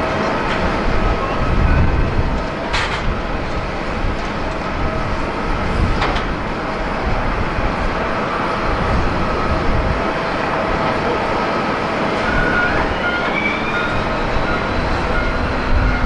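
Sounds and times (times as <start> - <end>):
jet engine rumble: 0.0 - 13.0, 13.7 - 16.0.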